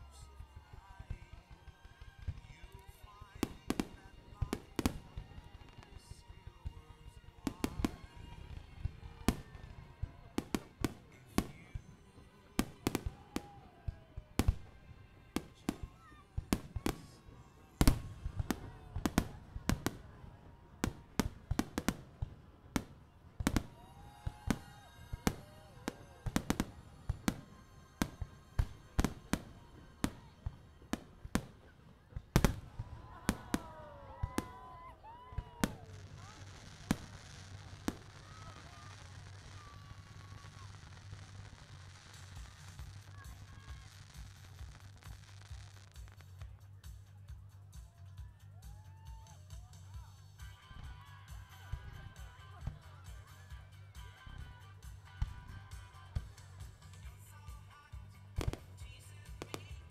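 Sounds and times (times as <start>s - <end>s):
fireworks bangs: 0.0s - 46.6s, 54.5s - 59.9s.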